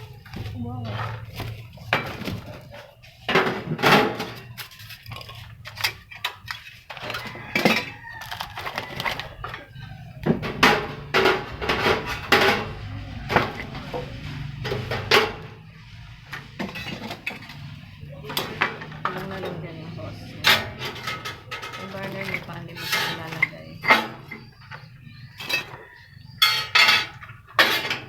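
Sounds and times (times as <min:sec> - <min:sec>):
metal parts clanking and knocking: 0:00.0 - 0:15.6, 0:16.3 - 0:19.7, 0:20.4 - 0:28.0.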